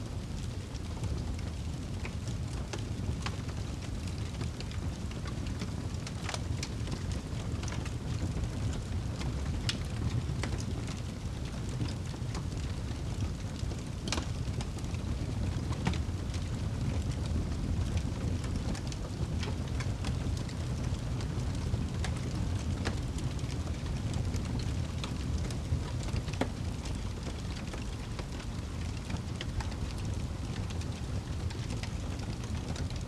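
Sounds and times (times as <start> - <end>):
campfire crackling and popping: 0.1 - 33.0.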